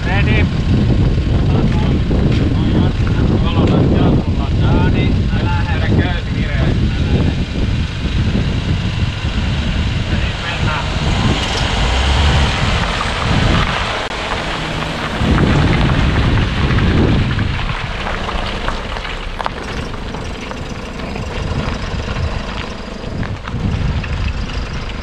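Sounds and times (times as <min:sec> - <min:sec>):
steady noisy wash: 0:00.0 - 0:23.7
suv engine and tyres rumbling: 0:00.0 - 0:25.0.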